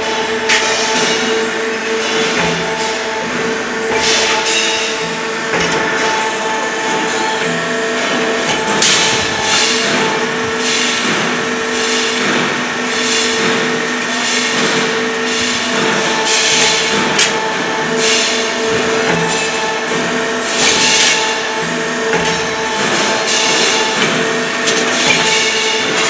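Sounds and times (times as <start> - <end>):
clattering hissing metal work: 0.0 - 26.0
machinery humming: 0.0 - 26.0.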